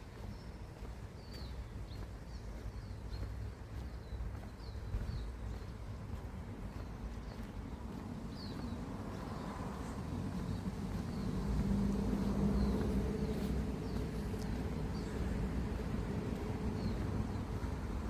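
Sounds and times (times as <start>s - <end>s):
vehicle engine running: 1.2s - 18.0s.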